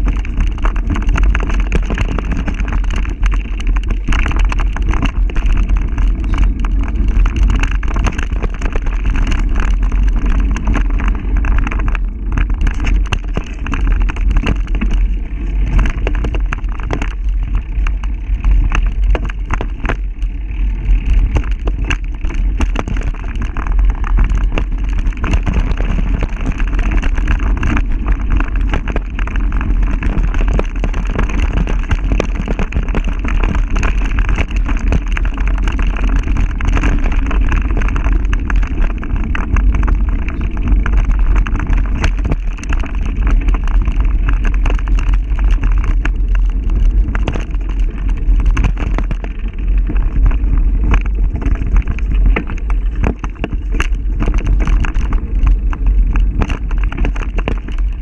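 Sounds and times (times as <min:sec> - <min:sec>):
bike rattling clicks: 0:00.0 - 0:58.0.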